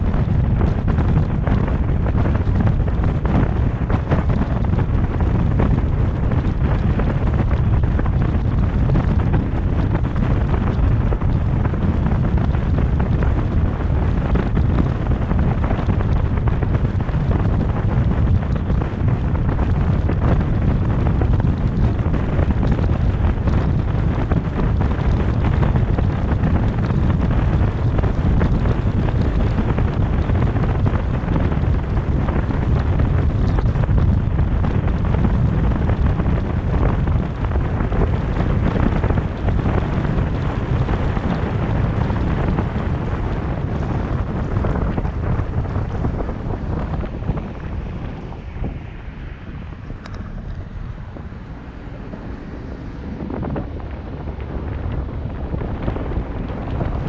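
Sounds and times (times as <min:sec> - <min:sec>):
tyres rumbling on road: 0:00.0 - 0:57.0
wind buffeting microphone: 0:00.0 - 0:57.0.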